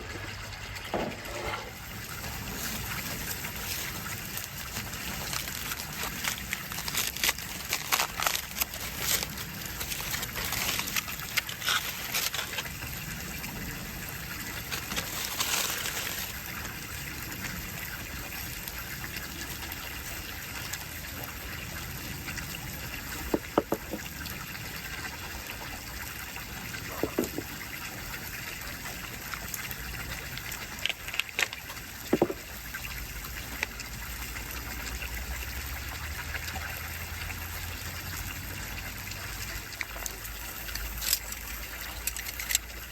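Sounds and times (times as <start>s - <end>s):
running water trickling: 0.0s - 42.9s.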